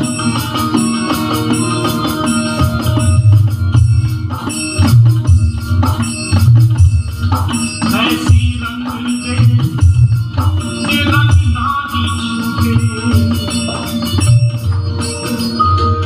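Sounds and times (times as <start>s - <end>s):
electronic drum pad beats: 0.0s - 16.0s
music with sustained keyboard tones: 0.0s - 16.0s.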